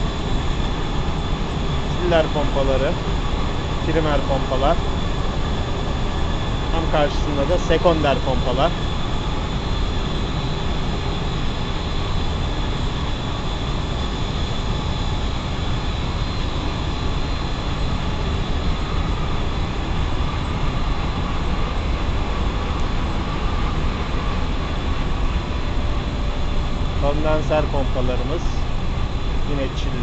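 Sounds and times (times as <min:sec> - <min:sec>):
machinery pumps droning: 0:00.0 - 0:30.0
thin high whine: 0:00.0 - 0:30.0.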